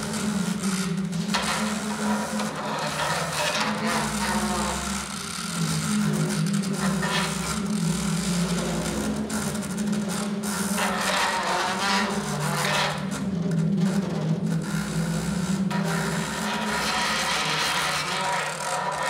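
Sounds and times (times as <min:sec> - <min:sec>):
low electronic buzz: 0:00.0 - 0:19.0.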